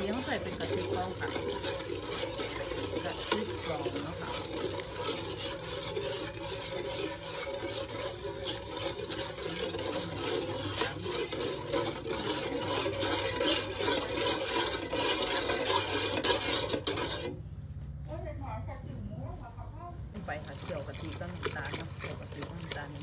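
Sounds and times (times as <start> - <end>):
metal ladle scraping a pot: 0.0 - 17.5, 20.1 - 23.0.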